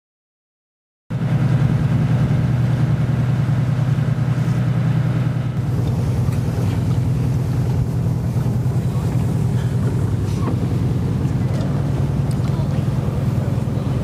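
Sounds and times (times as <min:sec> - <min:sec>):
boat engine droning: 0:01.1 - 0:14.0.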